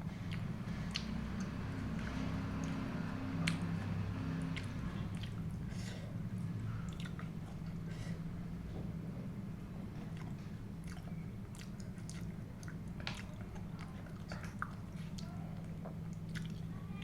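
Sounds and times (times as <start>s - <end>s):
chewing food: 0.0s - 8.0s, 9.8s - 17.0s.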